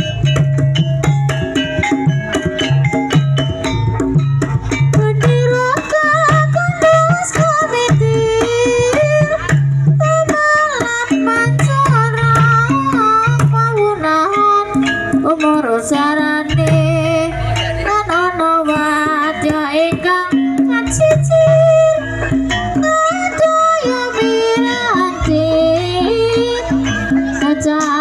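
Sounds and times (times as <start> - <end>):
gamelan music: 0.0 - 28.0.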